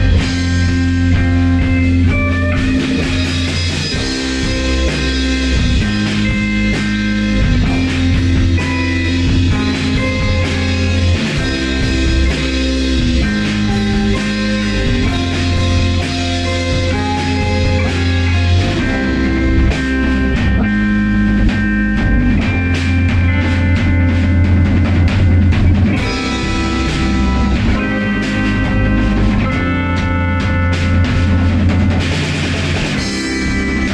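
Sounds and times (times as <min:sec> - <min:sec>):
drums and cymbal hits: 0:00.0 - 0:33.9
electric guitar: 0:00.0 - 0:33.9
low bass notes: 0:00.0 - 0:33.9.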